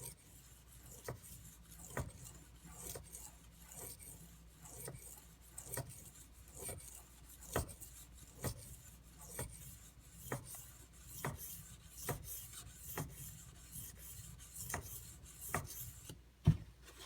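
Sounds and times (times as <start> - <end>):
knife scraping on whetstone: 0.0 - 16.2.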